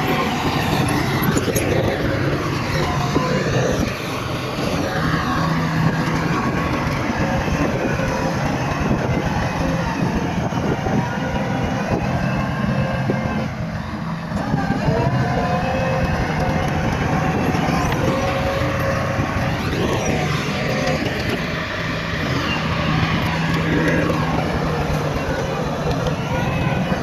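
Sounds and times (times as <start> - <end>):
diesel engine running under load: 0.0 - 27.0
steel tracks rattling: 0.0 - 27.0.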